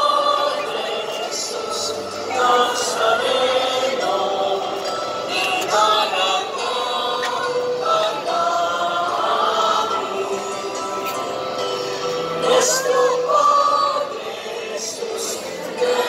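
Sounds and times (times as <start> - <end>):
crowd singing a hymn: 0.0 - 16.0.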